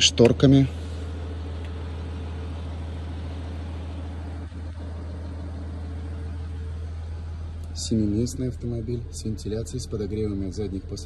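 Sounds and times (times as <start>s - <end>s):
diesel engine idling: 0.0s - 11.0s
faint steady whine: 0.0s - 11.0s.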